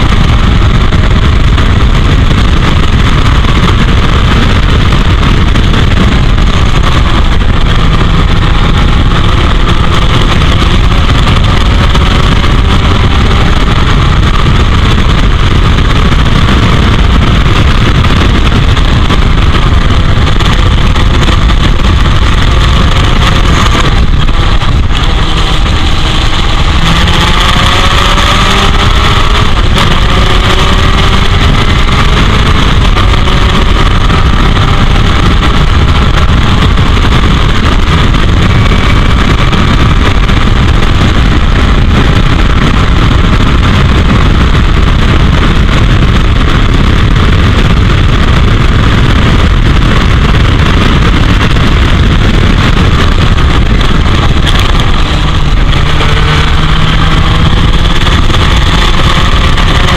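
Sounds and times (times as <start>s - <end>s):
race car engine revving: 0.0s - 59.9s
wind buffeting microphone: 0.0s - 59.9s.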